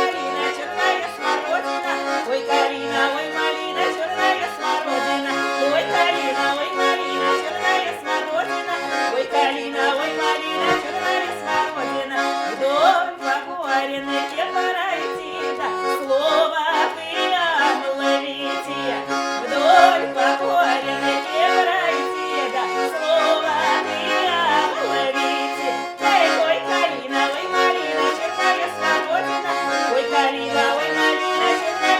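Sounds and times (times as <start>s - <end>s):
accordion playing folk tune: 0.0s - 31.9s.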